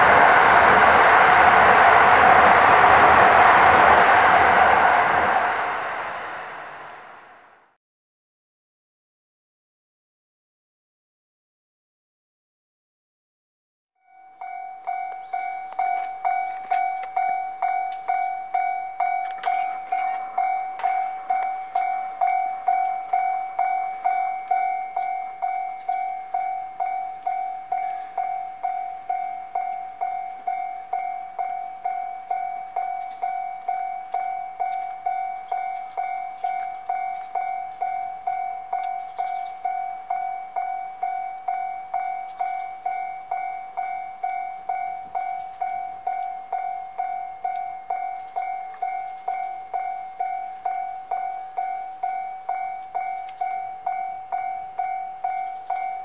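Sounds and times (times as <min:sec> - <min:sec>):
level crossing warning bell: 0:00.0 - 0:07.2, 0:14.0 - 0:56.0.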